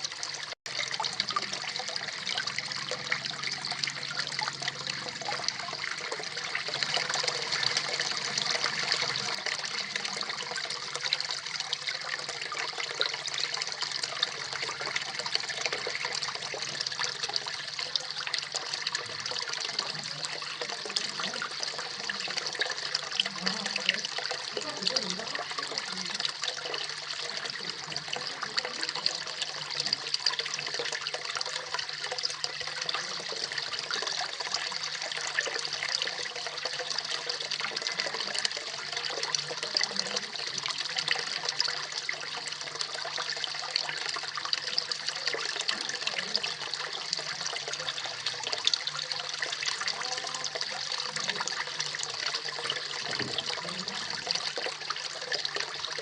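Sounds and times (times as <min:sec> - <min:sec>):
waterfall splashing into pond: 0:00.0 - 0:56.0.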